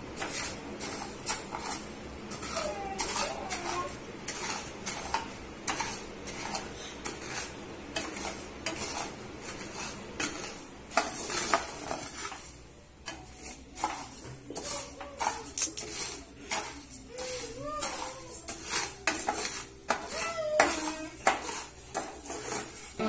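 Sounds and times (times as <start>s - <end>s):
spatula scraping rice in a pan: 0.0s - 23.0s.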